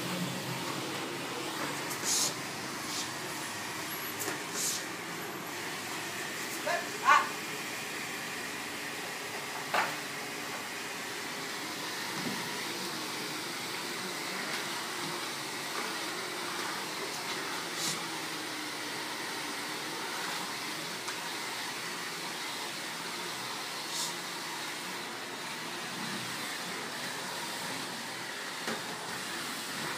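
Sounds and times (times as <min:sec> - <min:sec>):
vacuum cleaner on tiled floor: 0:00.0 - 0:29.9.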